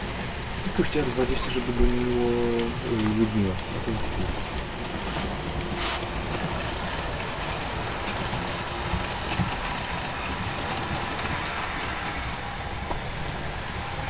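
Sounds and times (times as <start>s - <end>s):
model trains rattling on track: 0.0s - 14.0s.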